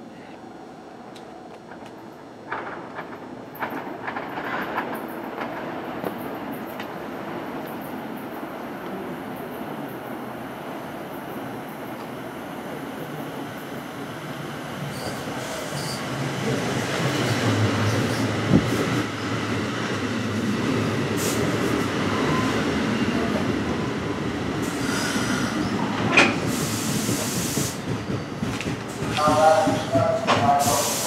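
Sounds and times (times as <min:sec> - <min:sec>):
train wheels rolling on rails: 0:01.0 - 0:10.5, 0:11.1 - 0:31.0.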